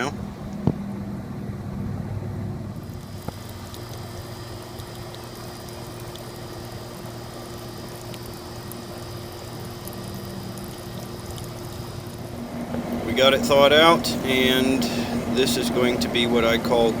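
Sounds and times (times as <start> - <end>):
heat pump humming: 0.0 - 17.0.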